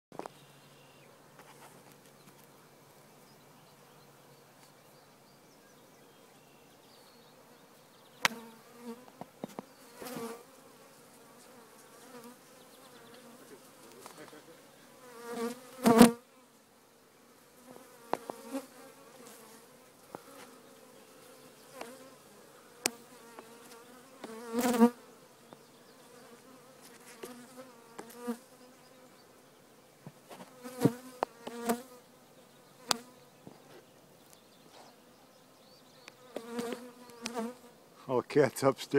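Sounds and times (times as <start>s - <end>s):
honeybees buzzing: 6.6s - 38.5s.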